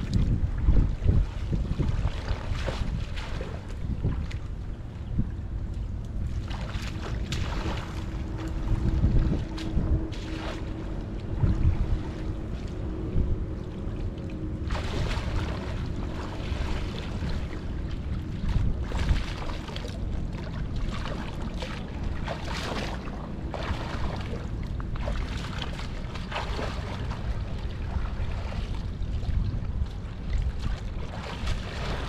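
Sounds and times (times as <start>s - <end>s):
water splashing: 0.0s - 4.6s, 6.2s - 32.0s
wind rumbling on microphone: 0.0s - 32.0s.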